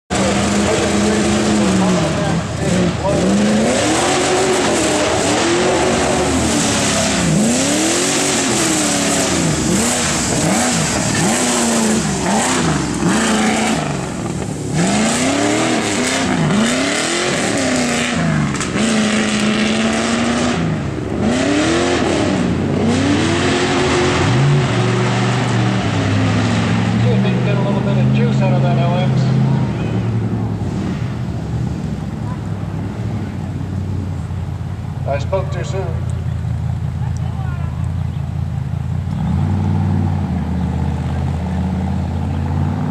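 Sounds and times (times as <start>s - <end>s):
truck engine revving hard: 0.1s - 34.4s, 38.5s - 42.9s.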